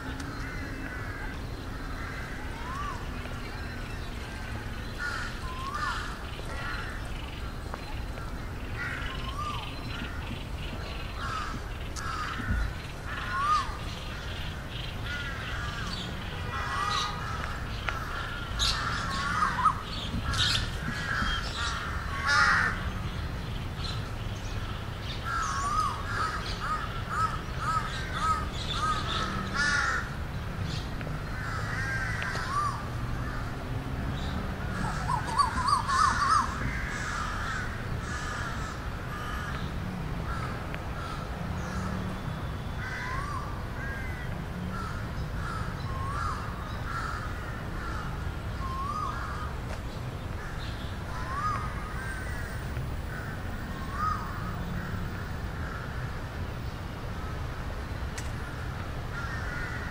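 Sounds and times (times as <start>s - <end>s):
flock of birds calling: 0.0s - 59.9s.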